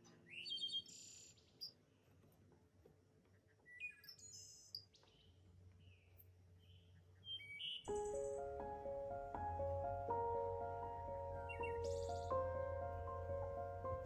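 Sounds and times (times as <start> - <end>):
birds chirping and trilling: 0.0 - 2.1, 3.2 - 14.0.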